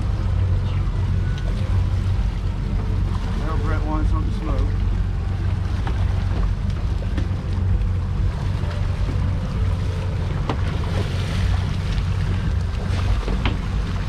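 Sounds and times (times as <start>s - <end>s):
outboard motors: 0.0s - 14.0s
water washing along hull: 0.0s - 14.0s.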